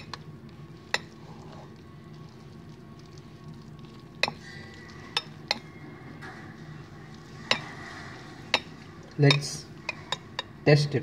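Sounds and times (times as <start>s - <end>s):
spoon stirring noodles: 0.0s - 10.6s.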